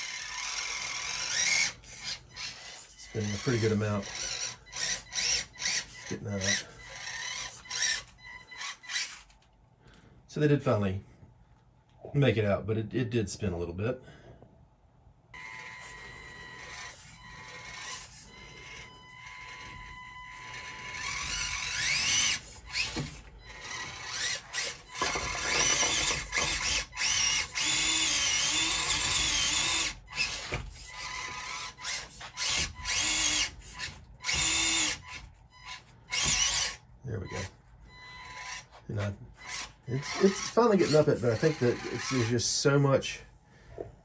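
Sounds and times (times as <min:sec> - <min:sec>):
small electric motor whining: 0:00.0 - 0:09.4, 0:15.4 - 0:42.7.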